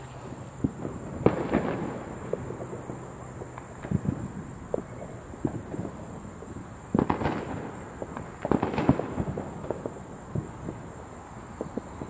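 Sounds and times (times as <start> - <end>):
firecrackers crackling bangs: 0.0 - 12.0
fireworks popping: 0.0 - 12.0.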